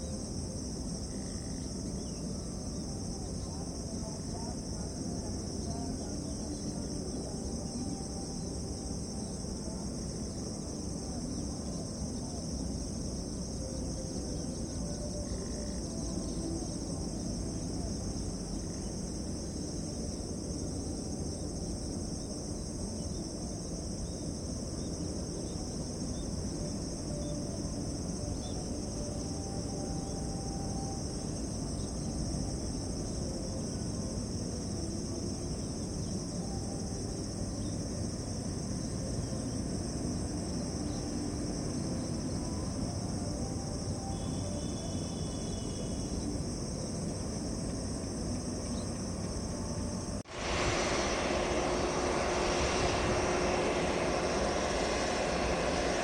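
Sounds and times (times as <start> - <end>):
insect chorus chirring: 0.0 - 56.0
low steady rumble: 0.0 - 56.0.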